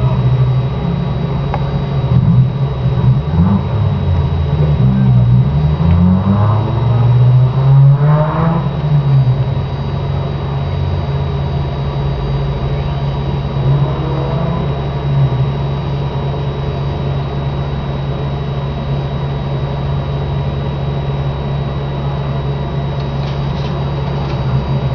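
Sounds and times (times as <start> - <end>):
low hum with hiss: 0.0 - 24.9.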